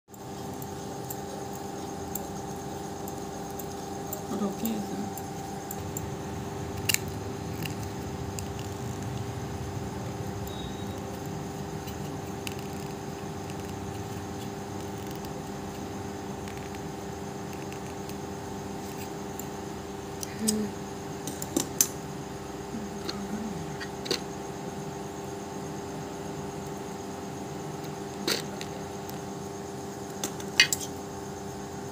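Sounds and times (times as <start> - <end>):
steady machine hum: 0.1 - 31.9.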